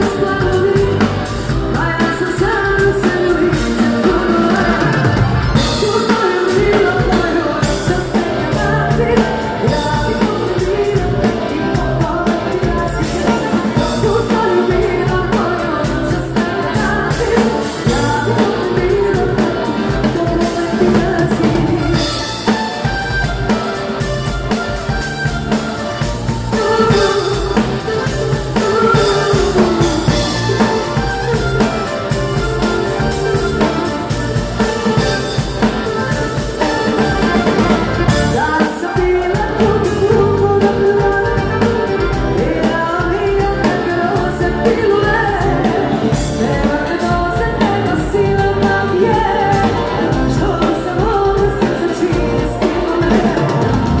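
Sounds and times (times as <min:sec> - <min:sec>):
drums and cymbals: 0:00.0 - 0:54.0
electric guitar: 0:00.0 - 0:54.0
person singing: 0:00.0 - 0:54.0.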